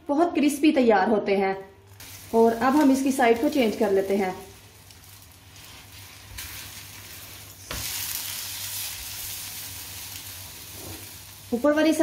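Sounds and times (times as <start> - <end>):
flatbread sizzling in ghee: 1.8 - 12.0.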